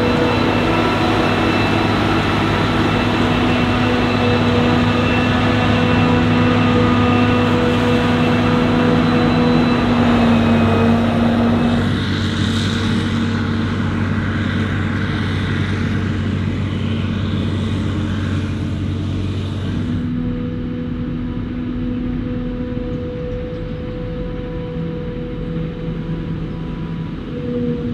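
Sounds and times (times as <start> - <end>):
harvester whine: 0.0 - 27.9
harvesting machinery engine drone: 0.0 - 27.9.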